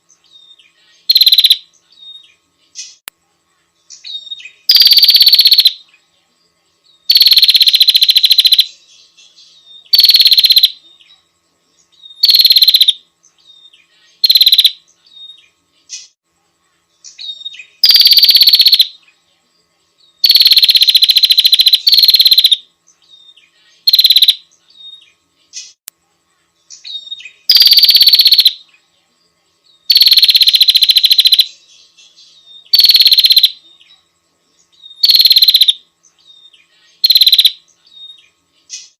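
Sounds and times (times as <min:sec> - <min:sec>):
bird buzzy trills: 0:00.0 - 0:03.0, 0:03.8 - 0:06.1, 0:06.9 - 0:19.3, 0:20.0 - 0:25.8, 0:26.6 - 0:28.9, 0:29.8 - 0:38.9.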